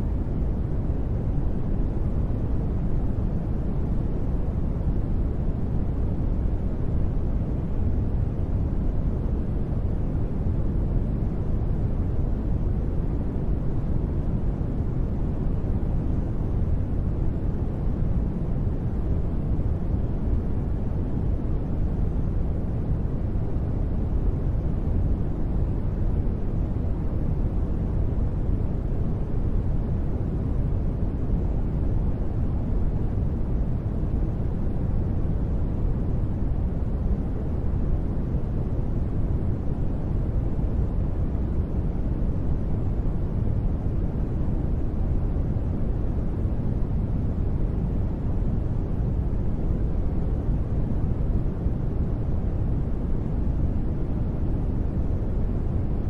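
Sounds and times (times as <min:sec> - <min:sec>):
deep steady noise rush: 0:00.0 - 0:56.0.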